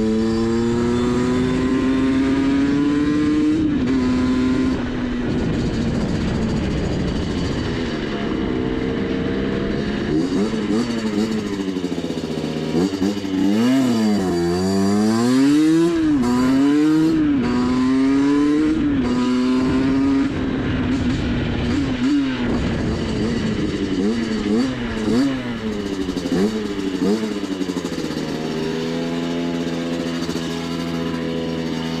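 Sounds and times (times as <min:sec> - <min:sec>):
two-stroke engine revving: 0:00.0 - 0:32.0.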